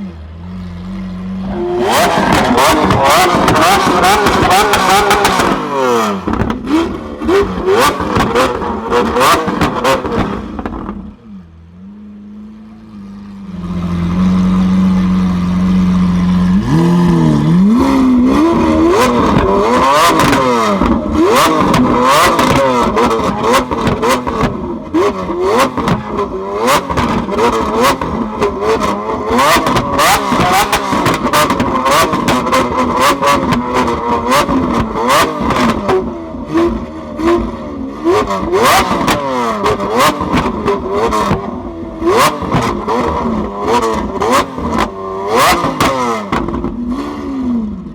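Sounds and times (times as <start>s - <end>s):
car engine idling: 0.0s - 47.9s
sports car engine revving: 0.0s - 47.9s
exhaust popping and crackling: 0.8s - 11.2s, 13.6s - 47.9s.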